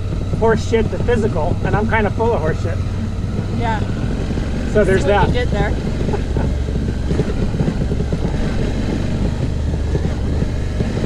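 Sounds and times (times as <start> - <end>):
motorcycle engine running: 0.0 - 11.0
road noise: 0.0 - 11.0
wind noise: 0.0 - 11.0.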